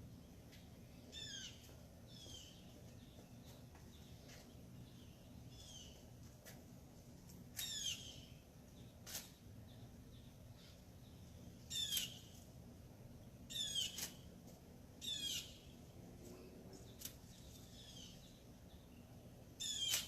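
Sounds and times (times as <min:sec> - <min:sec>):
songbird singing: 0:00.0 - 0:06.6, 0:07.5 - 0:20.0.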